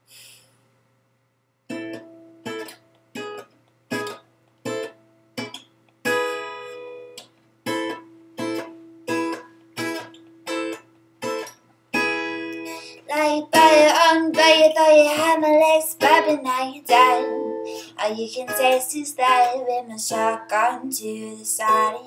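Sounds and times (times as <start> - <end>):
acoustic guitar strumming chords: 1.7 - 22.0.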